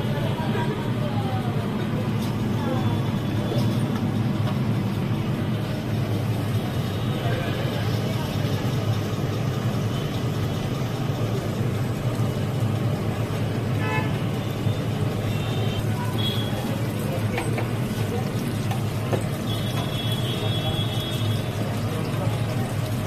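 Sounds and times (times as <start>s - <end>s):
deep-frying in hot oil: 0.0s - 23.0s
low traffic rumble: 0.0s - 23.0s.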